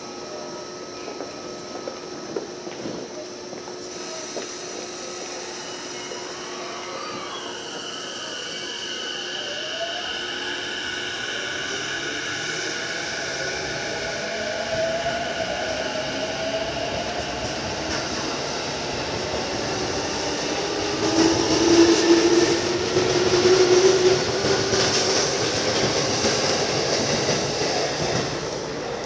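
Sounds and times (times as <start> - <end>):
electric train motors whining: 0.2 - 29.0.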